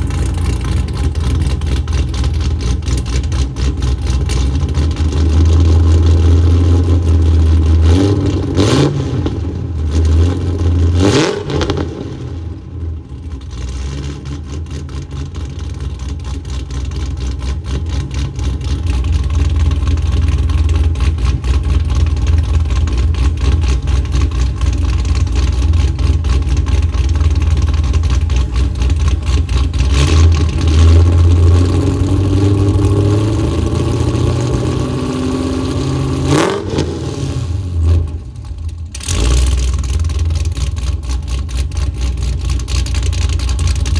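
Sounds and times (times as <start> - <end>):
car engine revving: 0.0 - 15.9, 16.5 - 43.9.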